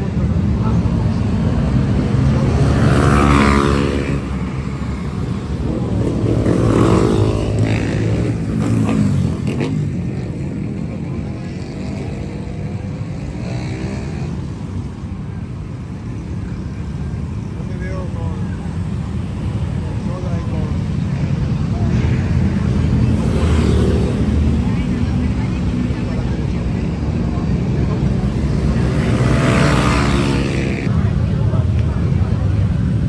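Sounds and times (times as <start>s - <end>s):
low traffic rumble: 0.0s - 33.0s
motorcycles passing by: 0.0s - 33.0s.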